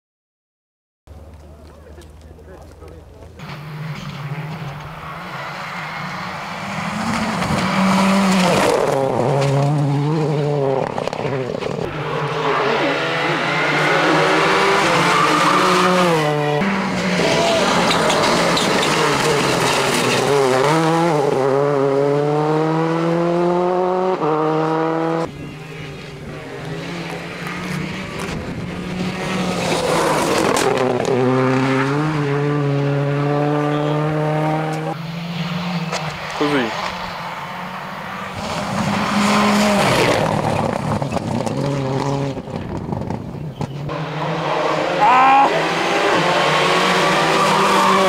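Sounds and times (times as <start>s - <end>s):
rally car engines at full throttle: 1.1s - 48.0s.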